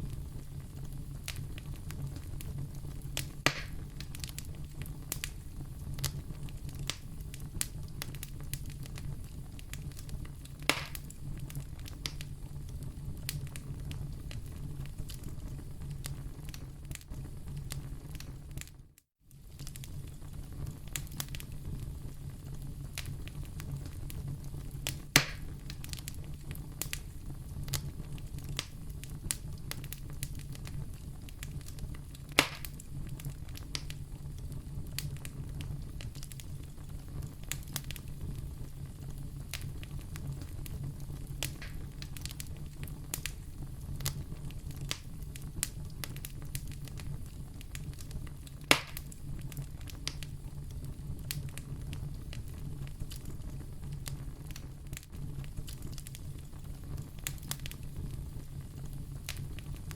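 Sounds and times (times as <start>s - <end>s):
fire crackling: 0.0s - 59.9s
fire popping: 0.0s - 59.9s.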